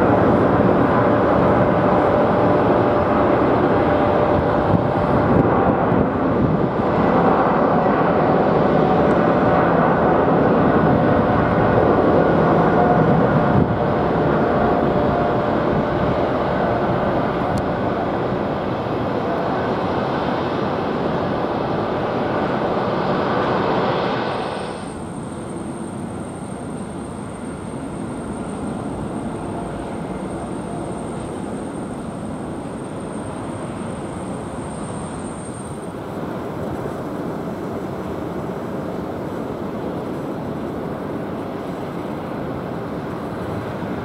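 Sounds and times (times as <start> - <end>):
high jet whine: 0.0 - 44.0
jet engines roaring: 0.0 - 44.0.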